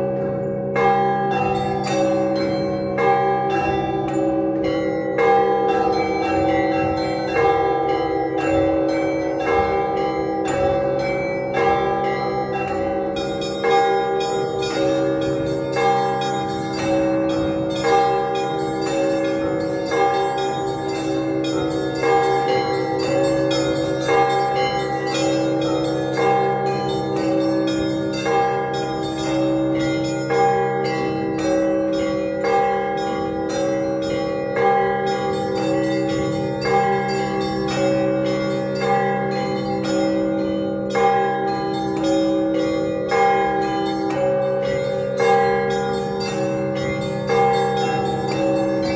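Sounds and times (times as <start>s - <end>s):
large bell strikes: 0.0s - 48.9s
smaller bells ringing rapidly: 0.0s - 48.9s.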